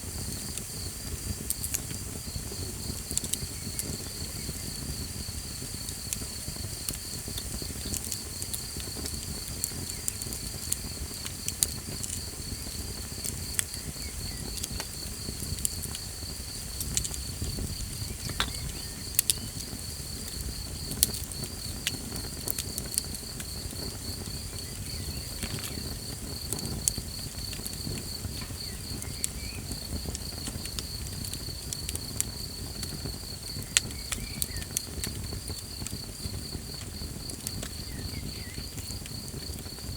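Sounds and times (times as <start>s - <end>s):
campfire crackling and popping: 0.0s - 39.9s
insect chirping: 0.0s - 39.9s
low rumble of flames: 0.0s - 39.9s.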